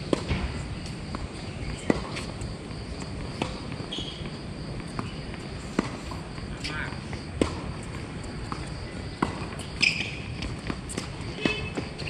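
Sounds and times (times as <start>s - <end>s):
tennis balls struck by rackets: 0.0s - 12.0s.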